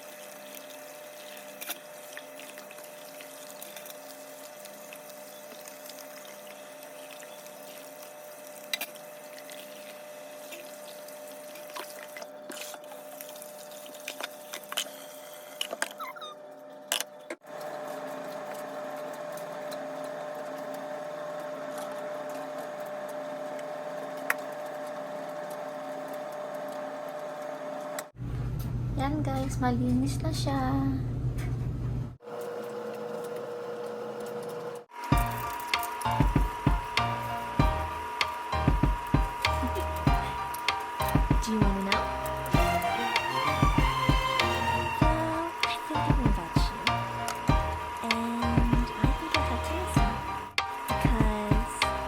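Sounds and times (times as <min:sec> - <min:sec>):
tap water running: 0:00.0 - 0:15.8, 0:17.4 - 0:28.1, 0:32.3 - 0:52.0.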